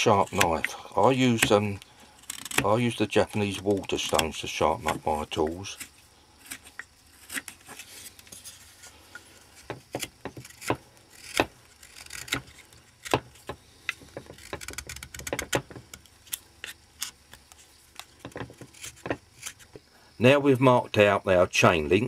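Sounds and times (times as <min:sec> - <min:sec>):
carving knife cutting wood: 0:00.0 - 0:19.8.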